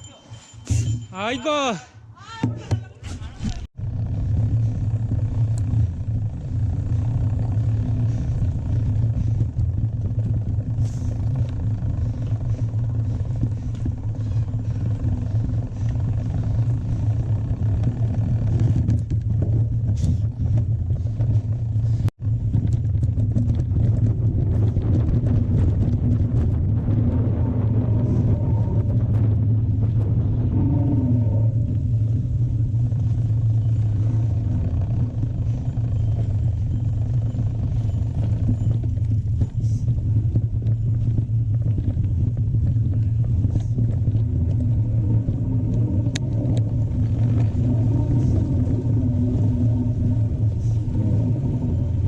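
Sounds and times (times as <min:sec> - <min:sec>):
bike clicks and rattles: 0:02.8 - 0:30.4, 0:31.6 - 0:52.0
wind and tyre rumble: 0:03.0 - 0:52.0.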